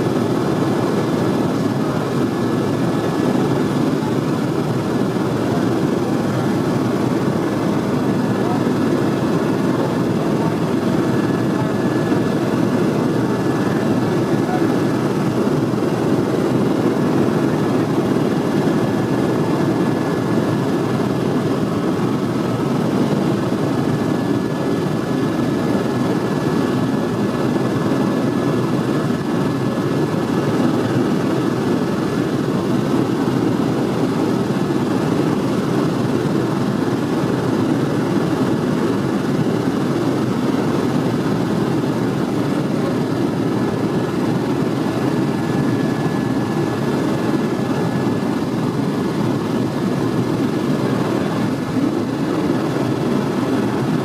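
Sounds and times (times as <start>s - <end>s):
helicopter engine and rotor noise: 0.0s - 54.0s.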